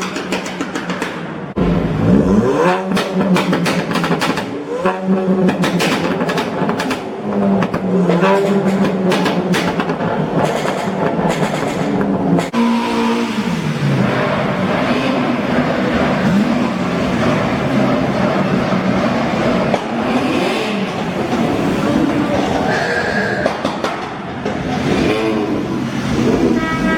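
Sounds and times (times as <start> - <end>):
car engine revving: 1.5 - 23.6, 24.2 - 26.9.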